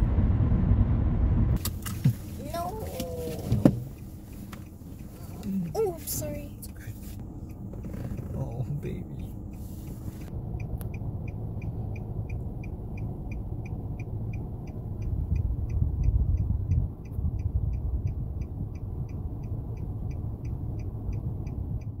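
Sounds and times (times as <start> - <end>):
low car rumble: 0.0 - 22.0
car indicator ticking: 1.6 - 22.0.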